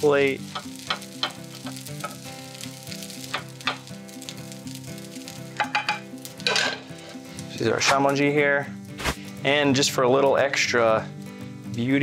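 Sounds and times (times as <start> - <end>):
fried rice sizzling in a pan: 0.0 - 11.7.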